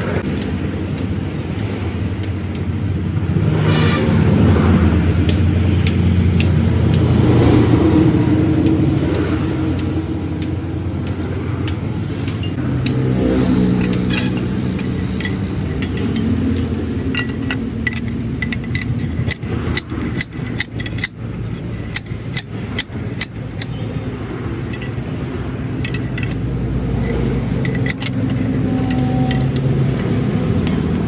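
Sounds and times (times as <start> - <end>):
vehicle engine running: 0.0 - 31.0
metallic clicks and clinks: 5.2 - 31.0.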